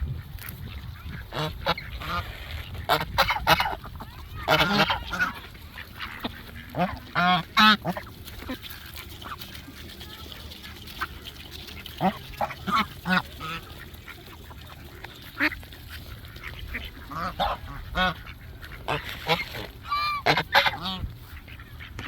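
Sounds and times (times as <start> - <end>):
geese honking: 0.7 - 22.0.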